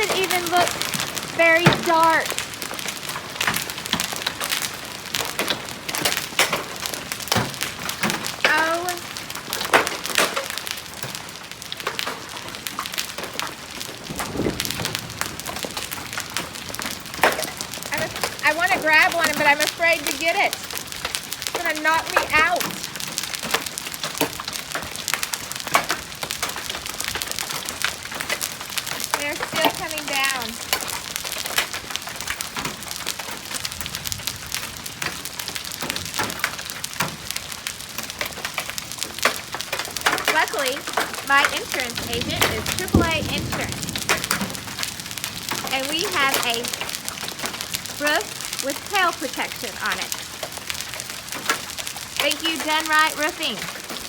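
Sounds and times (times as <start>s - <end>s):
hailstones pelting: 0.0s - 54.0s.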